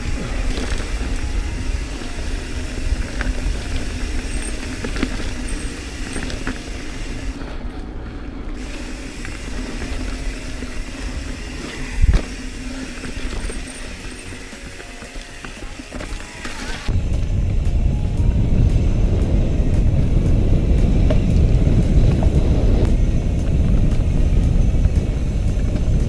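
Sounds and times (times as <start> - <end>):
bike rattling and knocking: 0.0 - 26.0
tyre and wind noise: 0.0 - 26.0.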